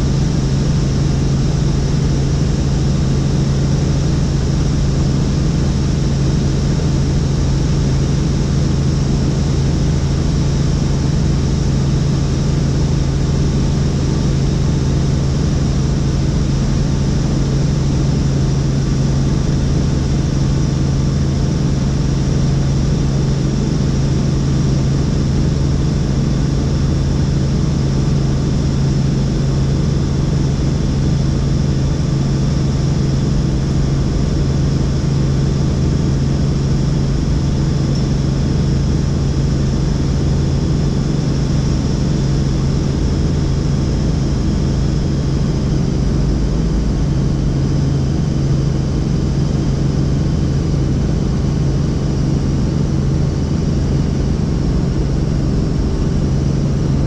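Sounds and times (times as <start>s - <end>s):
helicopter engine and rotors humming: 0.0s - 57.0s.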